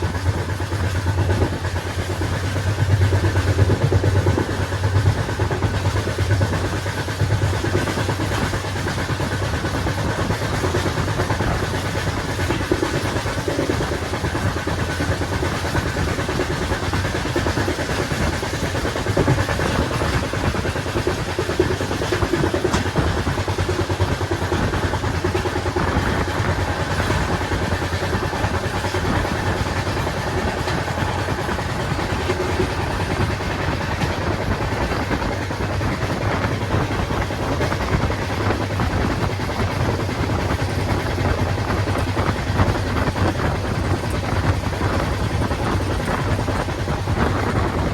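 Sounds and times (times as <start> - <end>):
train rumbling and rattling: 0.0 - 47.9.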